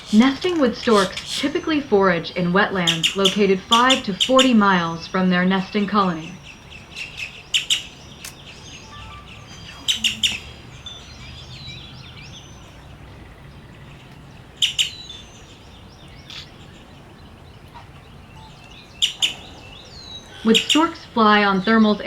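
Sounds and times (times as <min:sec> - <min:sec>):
many birds chirping: 0:00.0 - 0:22.0.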